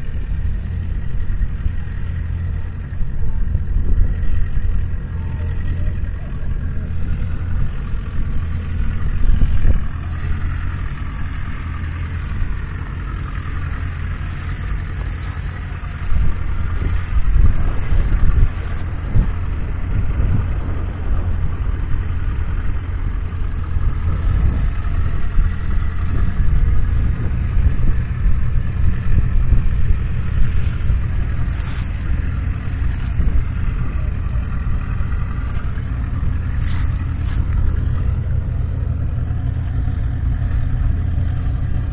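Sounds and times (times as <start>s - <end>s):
diesel tractor engine running: 0.0s - 41.9s.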